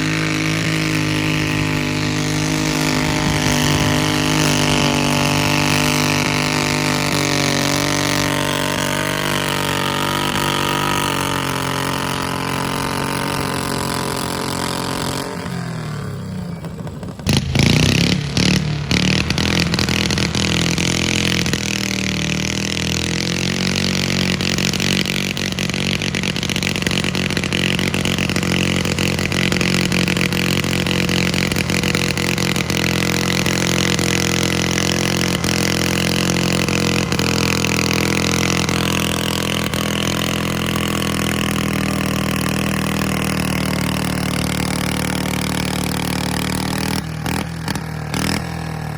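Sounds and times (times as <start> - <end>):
engine revving at high speed: 0.0 - 48.9
tractor engine running hard: 0.0 - 48.9.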